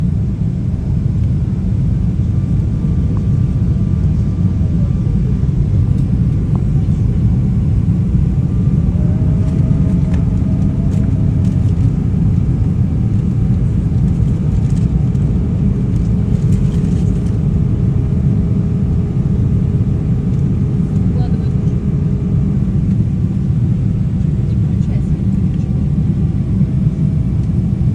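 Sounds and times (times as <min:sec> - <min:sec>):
airplane cabin rumble: 0:00.0 - 0:27.9
faint engine tones: 0:00.0 - 0:27.9.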